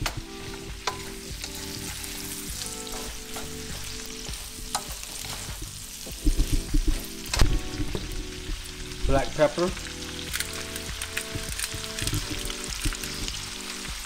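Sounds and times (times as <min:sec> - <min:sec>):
vegetables sizzling in fat: 0:00.0 - 0:14.0.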